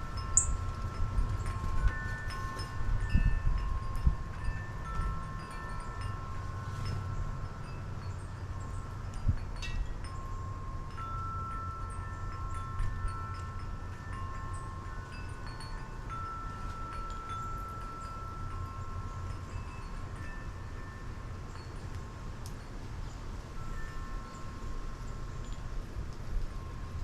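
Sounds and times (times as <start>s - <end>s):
low wind rumble: 0.0s - 27.0s
wind chimes ringing: 0.0s - 27.0s.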